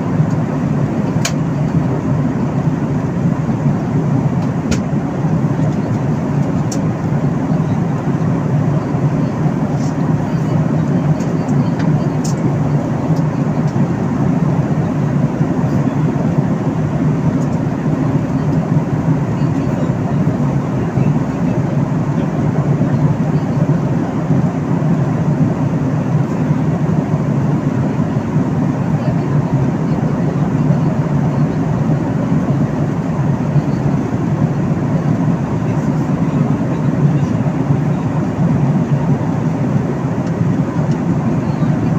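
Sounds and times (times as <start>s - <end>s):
airliner cabin engine roar: 0.0s - 41.9s
low steady hum: 0.0s - 41.9s.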